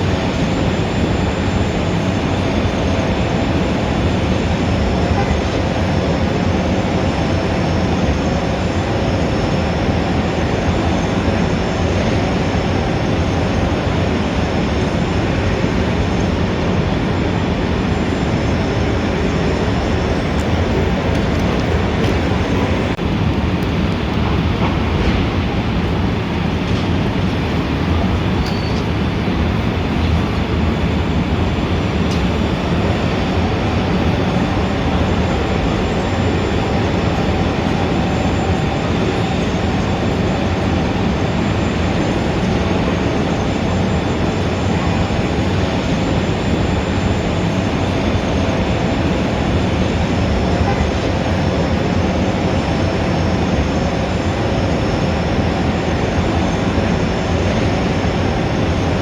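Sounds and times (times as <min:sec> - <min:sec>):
dense city traffic: 0:00.0 - 0:59.0.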